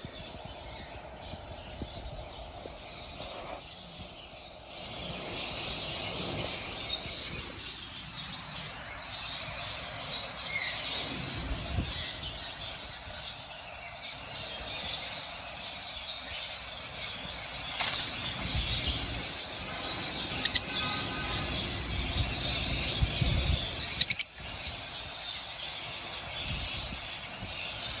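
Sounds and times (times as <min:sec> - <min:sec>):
lovebirds chirping: 0:00.0 - 0:28.0
steady background noise: 0:00.0 - 0:28.0.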